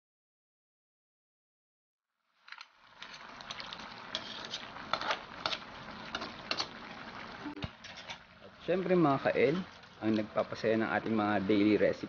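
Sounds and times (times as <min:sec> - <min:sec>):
sauce boiling with pops: 0:02.2 - 0:12.0.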